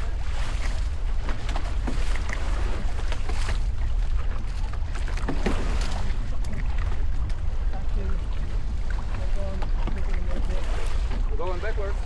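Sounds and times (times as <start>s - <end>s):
water splashing against hulls: 0.0s - 12.0s.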